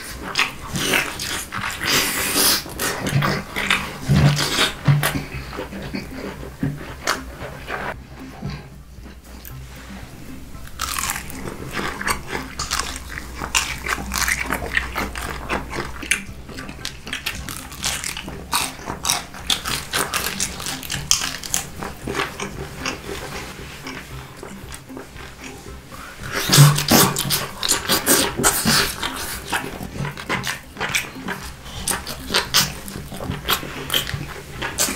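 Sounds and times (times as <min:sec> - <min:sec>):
wet crunchy chewing: 0:00.0 - 0:10.0, 0:10.6 - 0:34.9.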